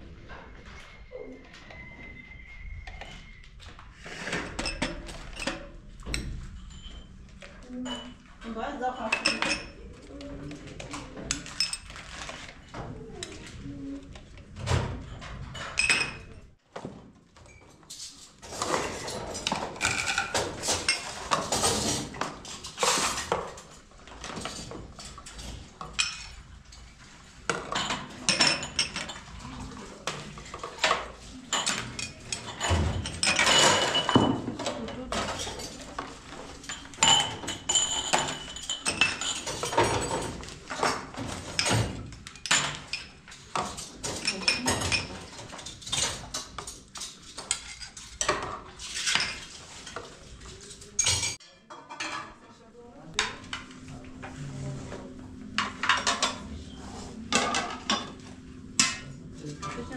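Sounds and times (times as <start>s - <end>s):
dishes and pots clattering: 3.9s - 52.5s, 53.1s - 59.9s.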